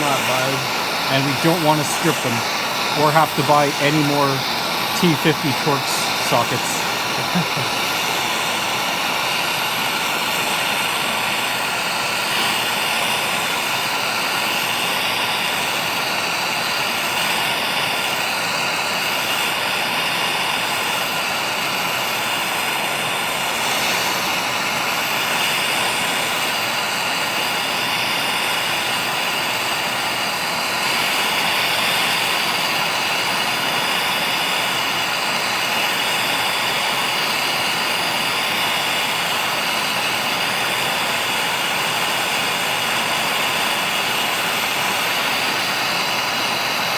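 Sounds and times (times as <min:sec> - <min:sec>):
torch flame burning: 0:00.0 - 0:46.9.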